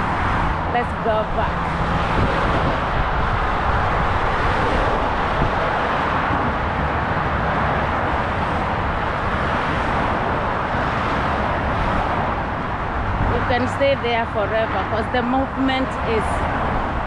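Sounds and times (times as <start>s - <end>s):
motorway traffic roar: 0.0s - 17.0s.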